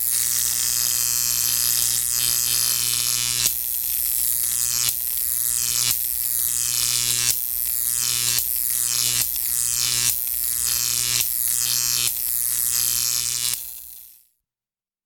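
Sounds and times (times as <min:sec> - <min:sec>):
high-voltage electrical buzz: 0:00.0 - 0:14.2.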